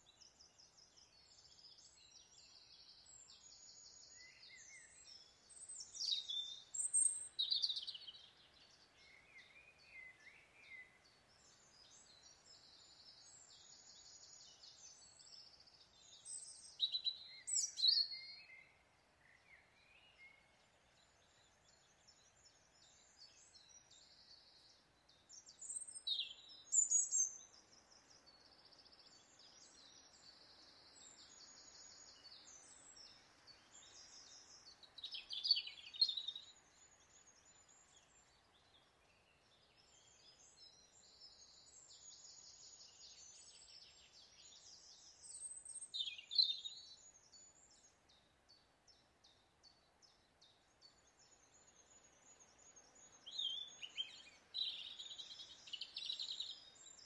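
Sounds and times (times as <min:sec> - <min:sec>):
bird singing song phrase: 0:00.0 - 0:57.0.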